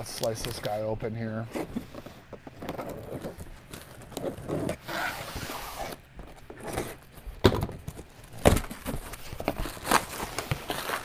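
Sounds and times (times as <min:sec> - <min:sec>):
cardboard flaps scraping and rustling: 0:01.4 - 0:11.0.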